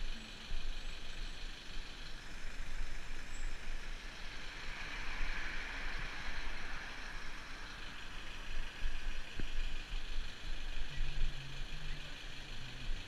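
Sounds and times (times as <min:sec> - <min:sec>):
bicycle road hiss: 0:00.0 - 0:13.0.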